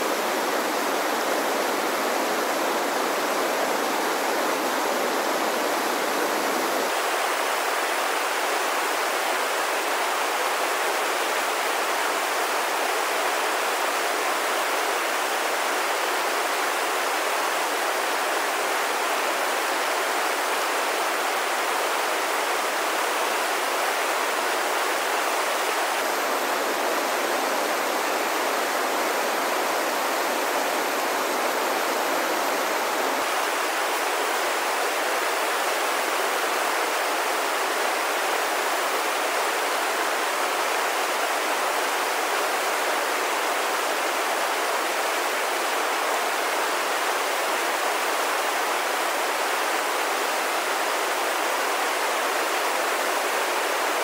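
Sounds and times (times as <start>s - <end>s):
whitewater rushing: 0.0s - 54.0s.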